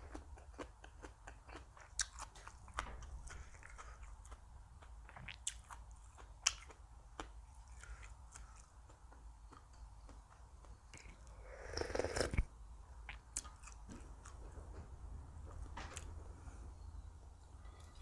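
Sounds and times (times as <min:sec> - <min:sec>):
chewing and crunching food: 0:00.0 - 0:16.2
low steady hum: 0:00.0 - 0:18.0.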